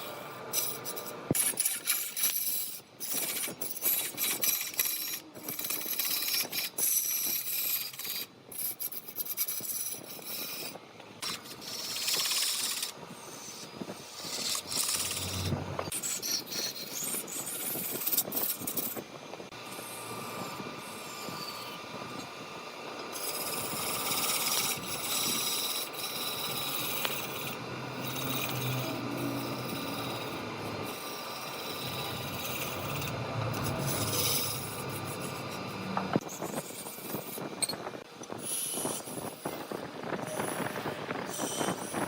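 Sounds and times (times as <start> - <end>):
turning tool scraping wood: 0.0 - 19.0, 23.0 - 39.8
faint lathe hum: 0.0 - 42.0.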